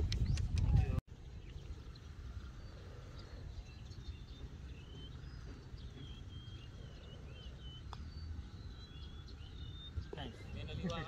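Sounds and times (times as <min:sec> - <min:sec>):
birds singing: 0:00.1 - 0:11.0.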